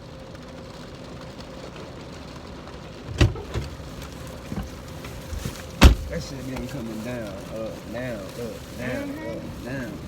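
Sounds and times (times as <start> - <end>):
car cabin road and engine noise: 0.0 - 10.0.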